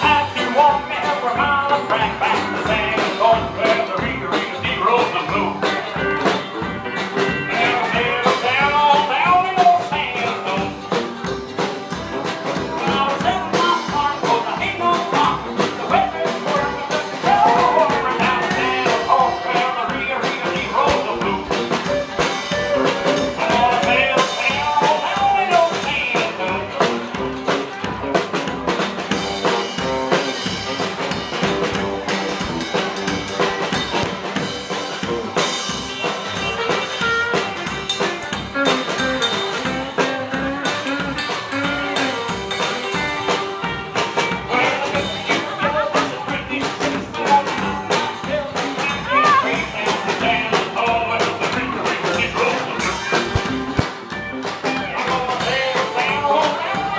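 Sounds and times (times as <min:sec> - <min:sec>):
guitars: 0:00.0 - 0:56.9
rockabilly band playing live: 0:00.0 - 0:56.9
steady drum beat: 0:00.0 - 0:56.9.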